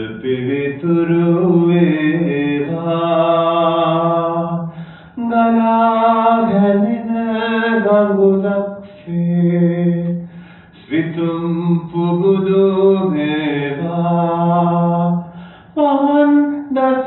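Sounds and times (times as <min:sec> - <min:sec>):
man chanting into microphone: 0:00.0 - 0:10.2, 0:10.8 - 0:17.0.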